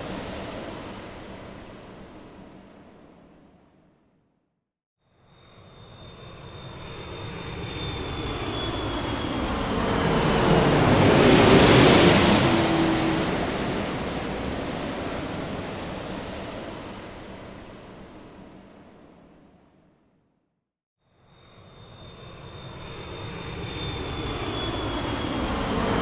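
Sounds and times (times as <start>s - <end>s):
airplane passing overhead: 0.0s - 2.8s, 5.4s - 18.9s, 21.4s - 26.0s.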